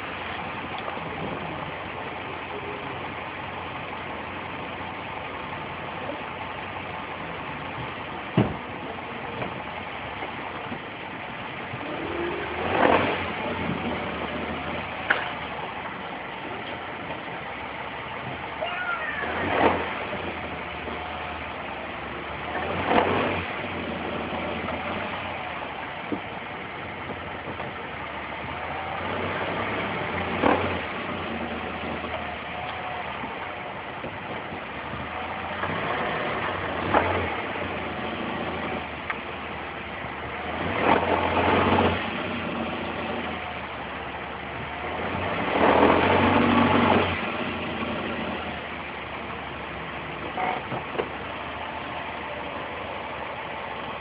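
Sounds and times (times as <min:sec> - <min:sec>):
car engine idling with rattle: 0:00.0 - 0:54.0
car engine revving: 0:00.0 - 0:54.0.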